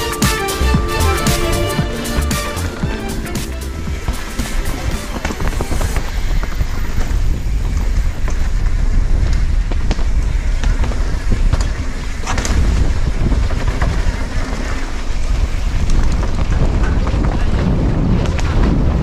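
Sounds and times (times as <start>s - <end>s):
steady low rumble: 0.0s - 19.0s
wind buffeting microphone: 0.8s - 19.0s.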